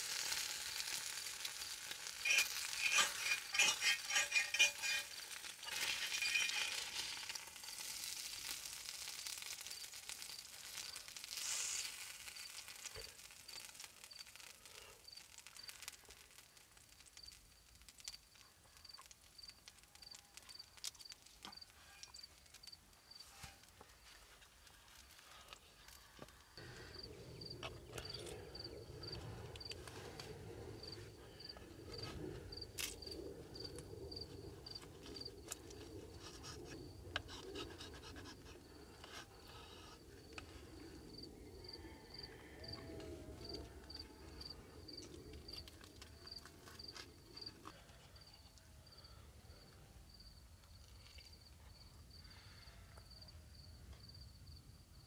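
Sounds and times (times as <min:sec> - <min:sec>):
cricket chirping: 0:01.6 - 0:23.8, 0:25.9 - 0:55.0.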